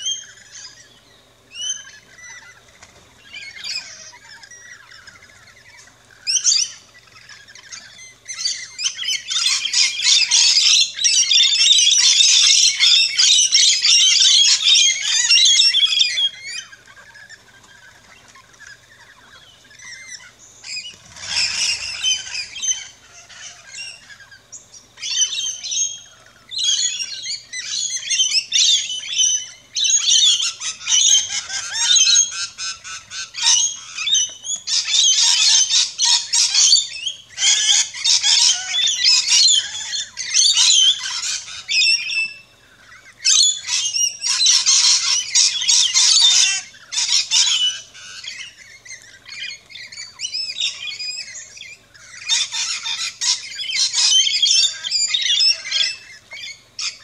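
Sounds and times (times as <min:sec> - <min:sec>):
lorikeets chirping and squawking: 0:00.0 - 0:57.0.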